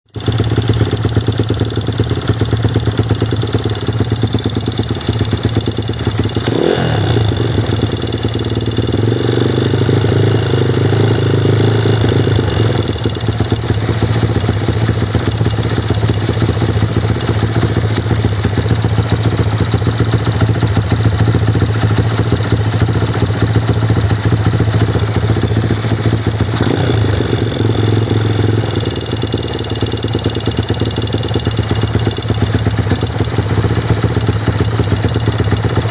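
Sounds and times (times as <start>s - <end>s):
engine running with knocking: 0.1s - 35.9s.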